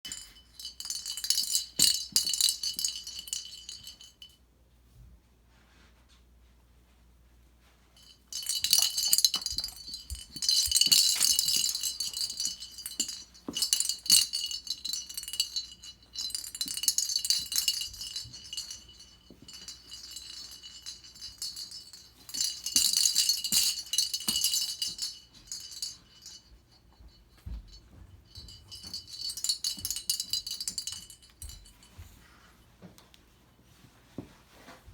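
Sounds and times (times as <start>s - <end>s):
bell jingling in toy ball: 0.1s - 4.2s, 8.0s - 32.1s.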